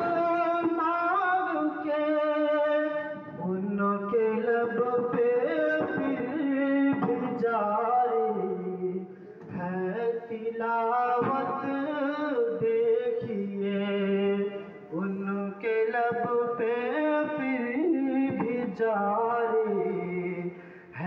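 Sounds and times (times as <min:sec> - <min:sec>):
man singing devotional song: 0:00.0 - 0:21.0.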